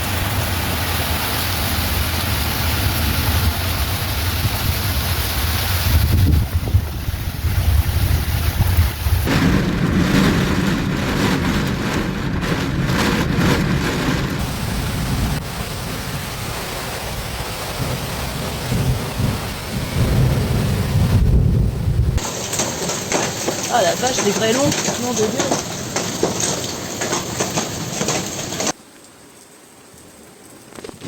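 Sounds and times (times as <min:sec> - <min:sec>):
low thunder rumbling: 0:00.0 - 0:28.8
heavy rain: 0:00.0 - 0:31.0
wind: 0:00.0 - 0:31.0.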